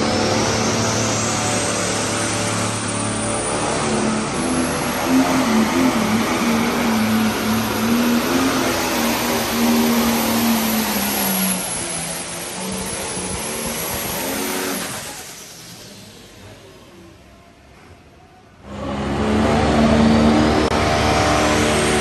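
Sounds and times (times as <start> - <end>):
high turbo whine: 0.0 - 17.0, 18.6 - 22.0
diesel engine droning under load: 0.0 - 17.4, 18.3 - 22.0.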